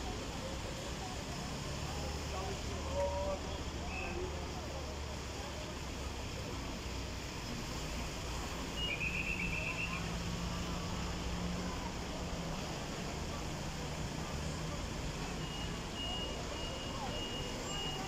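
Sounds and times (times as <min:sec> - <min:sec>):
traffic engine hum: 0:00.0 - 0:18.0.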